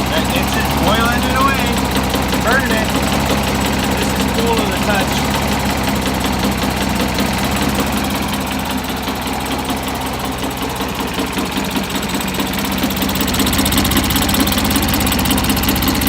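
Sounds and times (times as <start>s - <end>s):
small lawn mower engine running rough: 0.0s - 16.0s.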